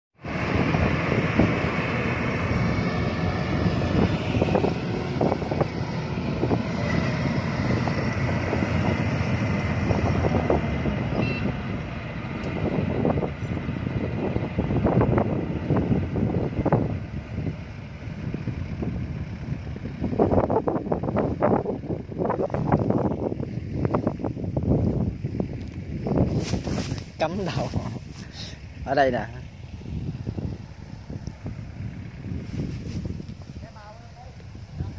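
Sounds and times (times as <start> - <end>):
combine harvester engine drone: 0.2 - 34.9.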